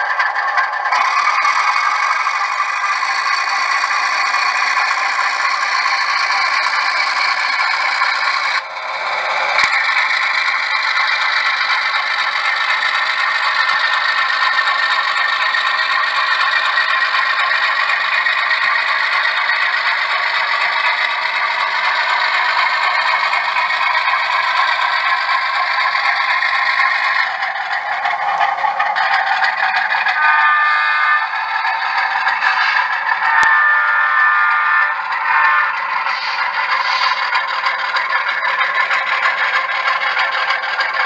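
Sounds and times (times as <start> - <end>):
model train wheels clattering on rails: 0.0 - 41.0.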